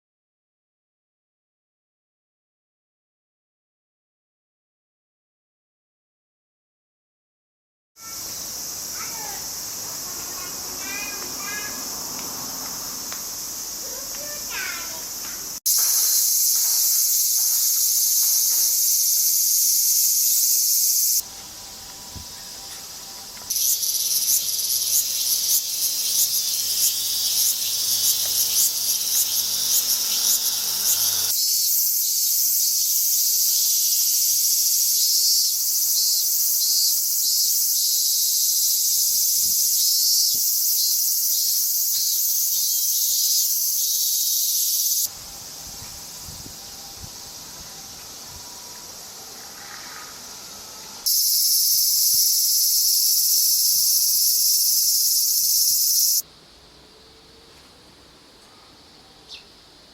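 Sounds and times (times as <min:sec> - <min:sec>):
cicadas singing: 0:08.0 - 0:56.3.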